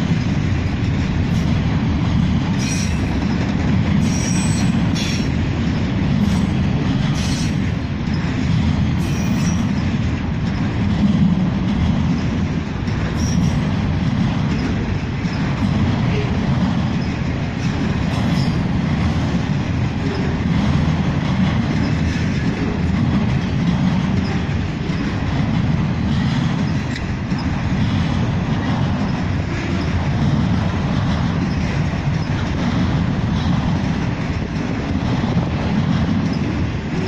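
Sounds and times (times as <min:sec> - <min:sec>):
steel wheels rumbling on rail: 0:00.0 - 0:37.0.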